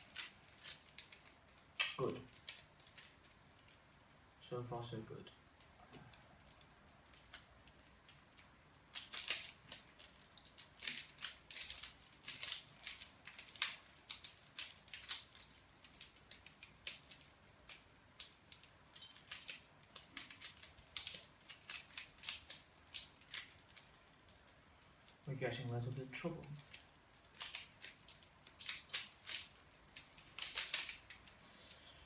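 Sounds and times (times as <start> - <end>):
puzzle cube plastic clicks: 0.0 - 3.8, 5.6 - 25.2, 26.4 - 31.8.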